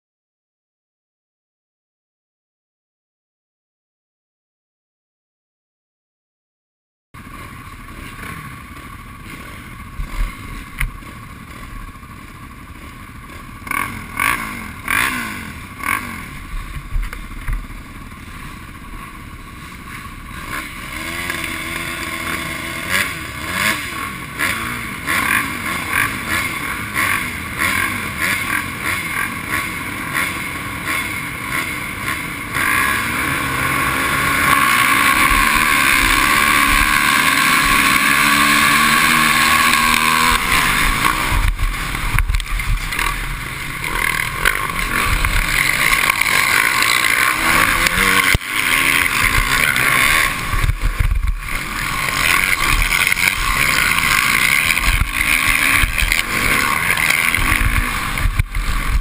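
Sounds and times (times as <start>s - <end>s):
motocross bikes idling and revving: 7.2s - 59.0s.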